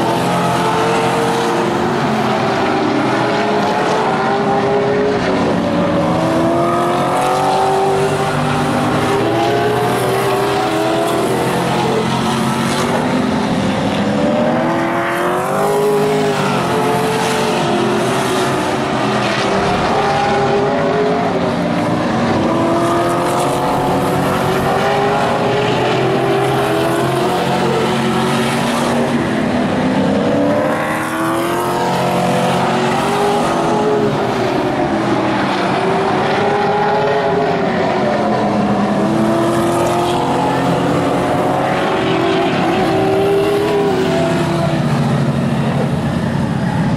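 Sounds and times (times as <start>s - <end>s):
cars sweeping past: 0.0s - 46.9s
race car engines accelerating: 0.0s - 46.9s.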